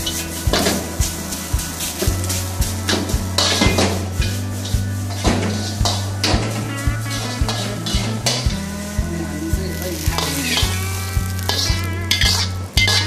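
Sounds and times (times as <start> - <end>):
ladle scraping a wok: 0.0 - 8.8, 9.7 - 13.0
rice sizzling: 0.0 - 13.0.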